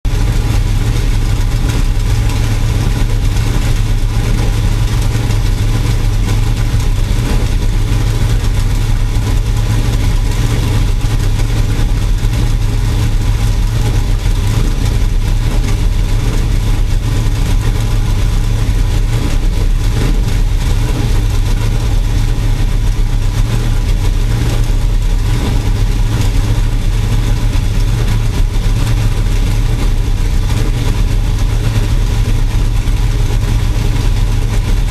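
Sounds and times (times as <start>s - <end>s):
race engine misfiring drone: 0.0s - 34.9s.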